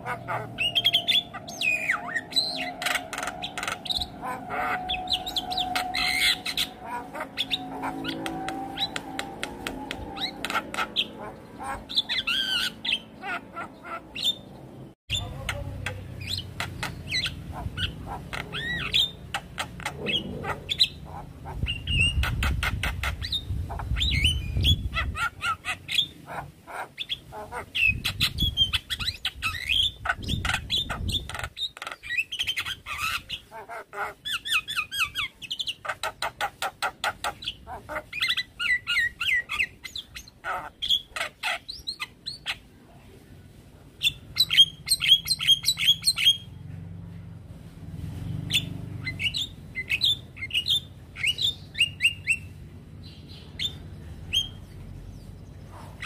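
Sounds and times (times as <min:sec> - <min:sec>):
bird singing varied song: 0:00.0 - 0:42.7, 0:44.0 - 0:46.6, 0:48.2 - 0:56.0.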